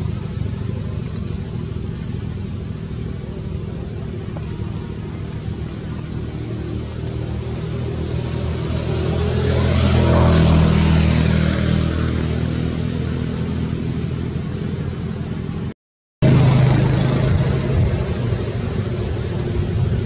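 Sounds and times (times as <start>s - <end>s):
vehicle engine low hum: 0.0s - 20.0s.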